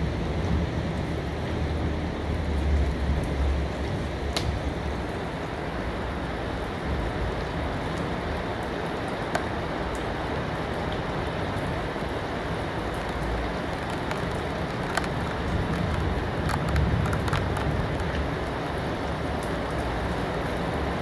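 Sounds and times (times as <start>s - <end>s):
steady rain hiss: 0.0s - 21.0s
raindrop ticks: 2.4s - 5.2s, 6.5s - 21.0s.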